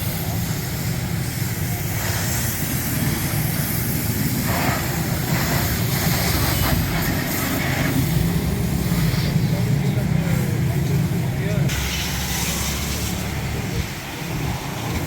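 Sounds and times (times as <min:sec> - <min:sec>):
low mechanical rumble: 0:00.0 - 0:12.2
continuous hiss: 0:00.0 - 0:15.0.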